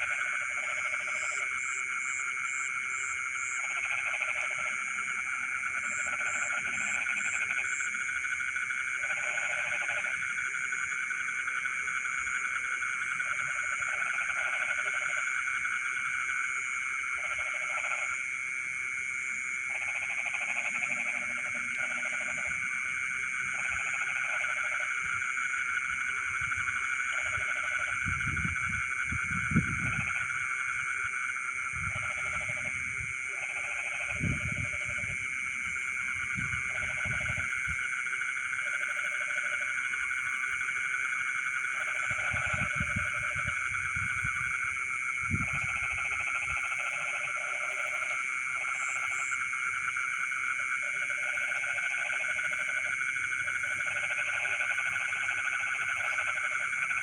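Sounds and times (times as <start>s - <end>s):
lower frog calls: 0.0s - 18.2s, 19.0s - 57.0s
frogs trilling chorus: 0.0s - 57.0s.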